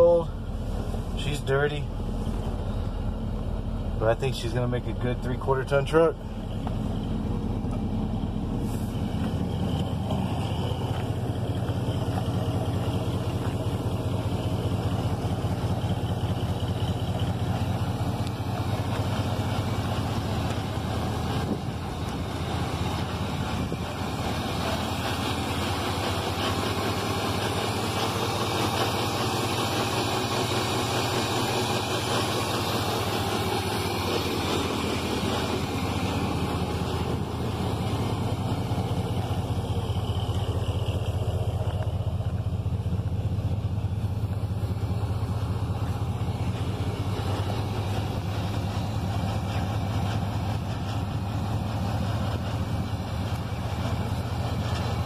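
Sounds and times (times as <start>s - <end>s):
pickup engine idling: 0.0s - 55.0s.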